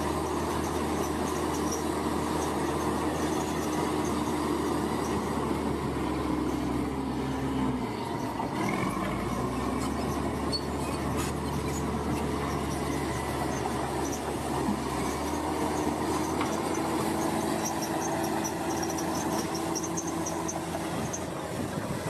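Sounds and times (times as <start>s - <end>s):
metallic squeal of crawler tracks: 0.0s - 21.7s
bulldozer diesel engine: 0.0s - 22.0s.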